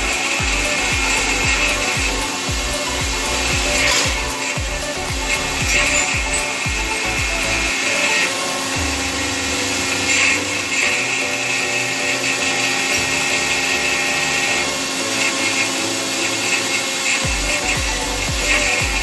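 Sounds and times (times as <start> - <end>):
hydraulic rock drill drilling rock: 0.0 - 19.0.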